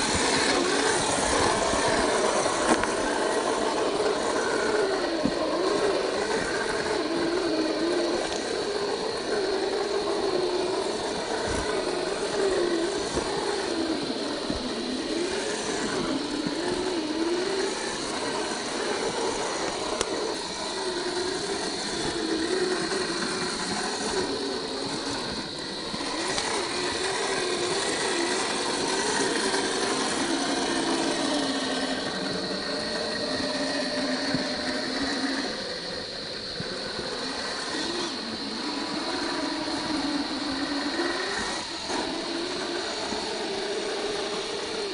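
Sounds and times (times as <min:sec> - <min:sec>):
rc car motor and gears whining: 0:00.0 - 0:44.9
steady high whine: 0:00.0 - 0:44.9.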